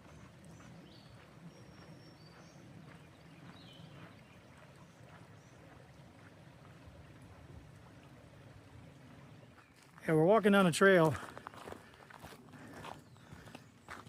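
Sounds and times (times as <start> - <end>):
creek rushing: 0.0 - 11.4
footsteps on dirt trail: 0.0 - 14.0.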